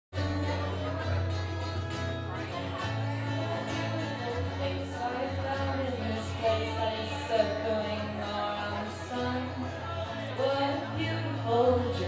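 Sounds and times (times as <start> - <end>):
strummed acoustic guitar: 0.1 - 12.0.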